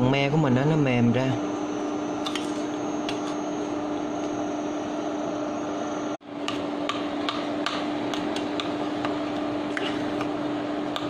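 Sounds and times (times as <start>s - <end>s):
cooling fan humming: 0.0s - 11.0s.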